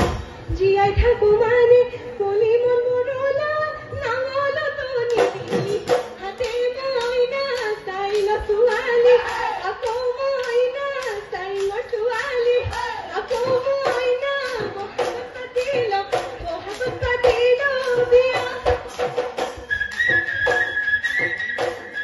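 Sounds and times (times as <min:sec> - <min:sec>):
drum beats: 0:00.0 - 0:01.4, 0:04.8 - 0:22.0.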